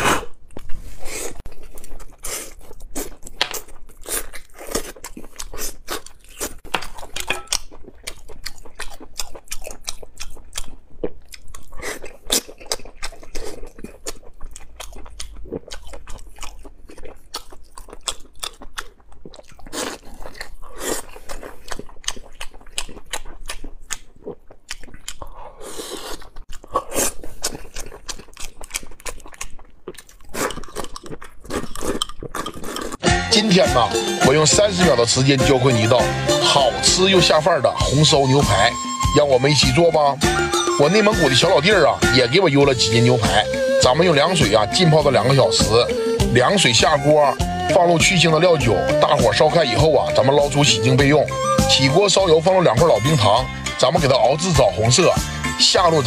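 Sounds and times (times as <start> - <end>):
man chewing meat: 0.0 - 35.0, 35.9 - 55.9.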